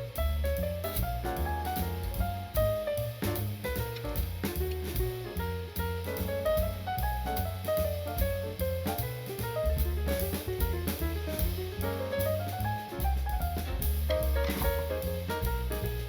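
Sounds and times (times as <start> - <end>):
drum kit: 0.0 - 16.0
jazz music: 0.0 - 16.0
walking bass line: 0.0 - 16.0.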